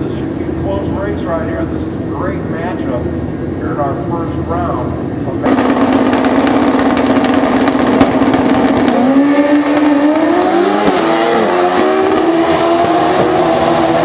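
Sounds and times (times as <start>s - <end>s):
motorcycle engines revving high: 0.0s - 14.0s.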